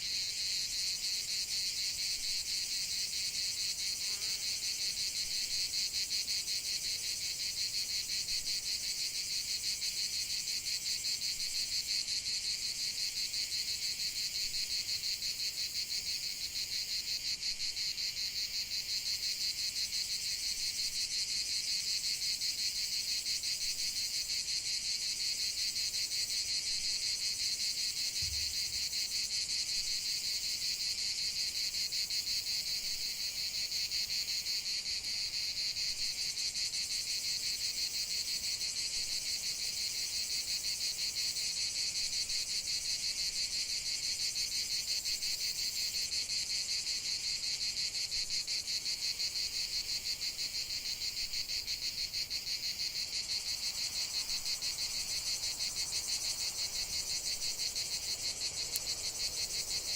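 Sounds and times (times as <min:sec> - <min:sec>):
crickets chirring: 0:00.2 - 0:59.9.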